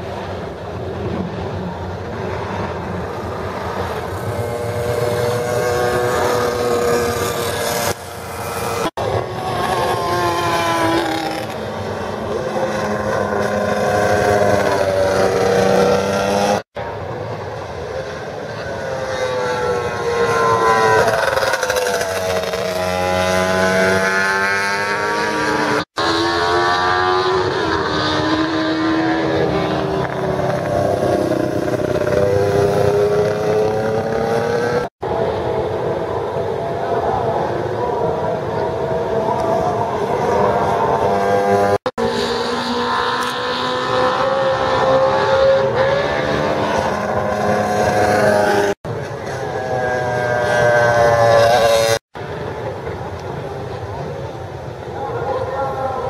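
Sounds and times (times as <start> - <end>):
motorcycles passing at speed: 0.0 - 16.7, 17.6 - 52.0.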